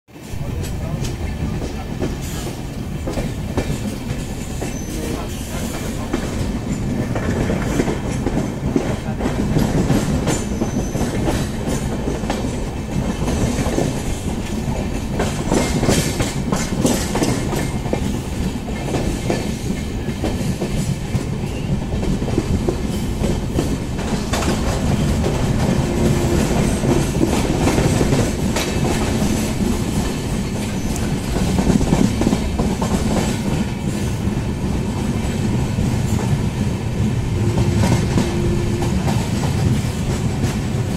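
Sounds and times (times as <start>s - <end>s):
train rumble: 0.1s - 40.9s.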